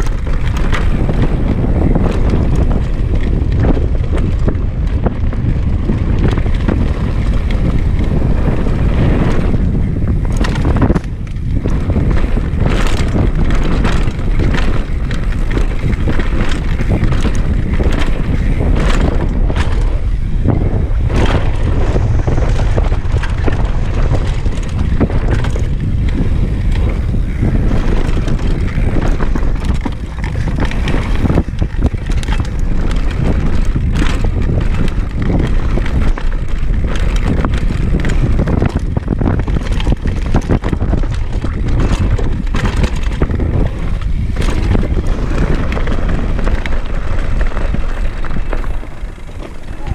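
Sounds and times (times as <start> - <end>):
bike knocks and rattles: 0.0 - 49.9
tyres rolling over gravel: 0.0 - 49.9
wind rushing over microphone: 0.0 - 49.9.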